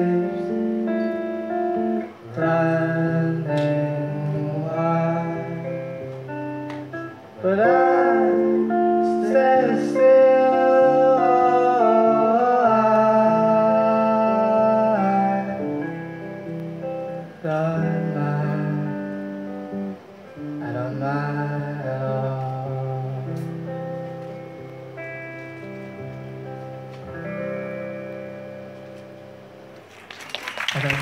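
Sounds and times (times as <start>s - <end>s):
acoustic guitar playing: 0.0s - 30.2s.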